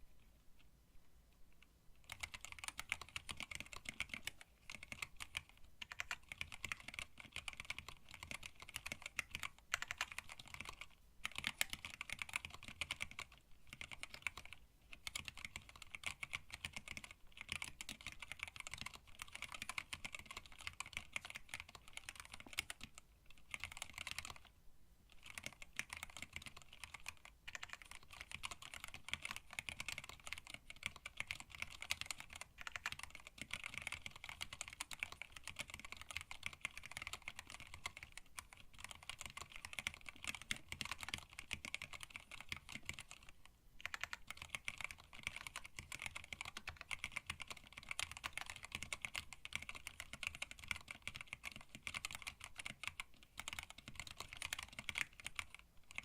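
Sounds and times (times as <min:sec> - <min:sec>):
mechanical keyboard typing: 0:02.0 - 0:24.5, 0:25.1 - 0:56.0.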